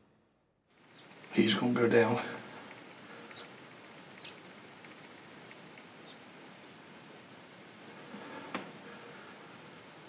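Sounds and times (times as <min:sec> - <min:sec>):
faint hiss: 0:00.7 - 0:10.0
faint bird chirps: 0:00.8 - 0:10.0.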